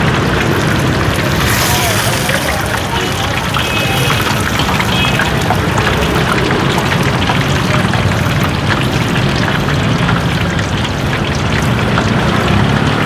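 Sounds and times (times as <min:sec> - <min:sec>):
traffic engines running: 0:00.0 - 0:13.0.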